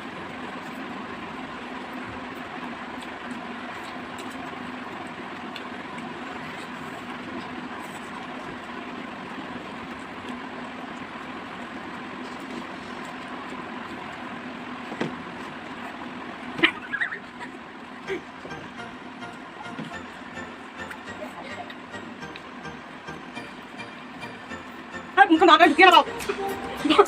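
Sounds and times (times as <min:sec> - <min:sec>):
background hum and hiss: 0:00.0 - 0:27.0.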